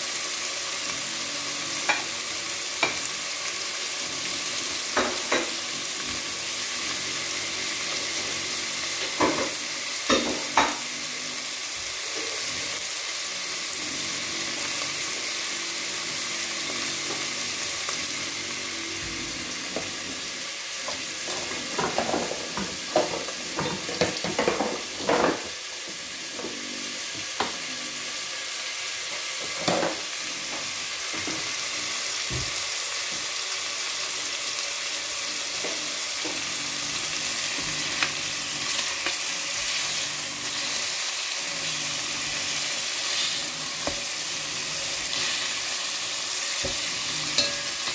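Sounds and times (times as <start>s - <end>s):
beef sizzling in hot oil: 0.0s - 47.9s.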